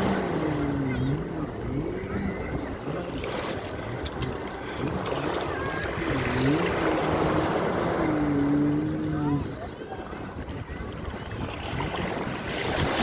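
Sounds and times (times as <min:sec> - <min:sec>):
small waves lapping: 0:00.0 - 0:13.0
wind buffeting microphone: 0:00.0 - 0:13.0.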